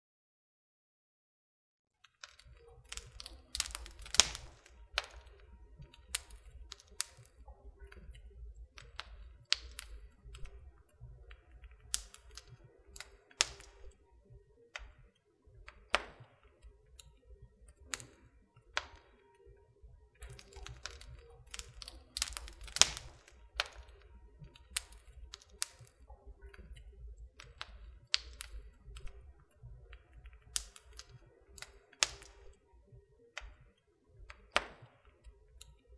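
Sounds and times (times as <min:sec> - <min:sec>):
wood fire crackling and popping: 0:02.0 - 0:32.7, 0:33.3 - 0:35.8.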